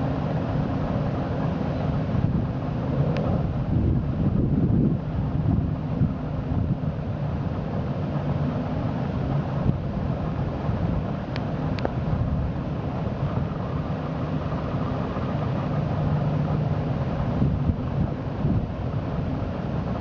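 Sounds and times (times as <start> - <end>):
boat engine humming: 0.0 - 20.0
wind buffeting microphone: 0.0 - 20.0.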